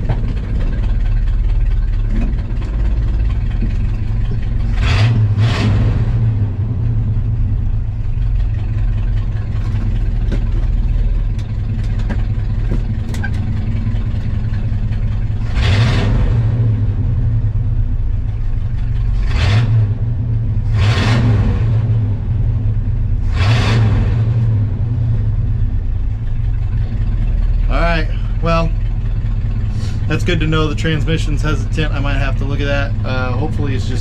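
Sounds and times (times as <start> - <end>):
pickup truck engine running: 0.0 - 34.0.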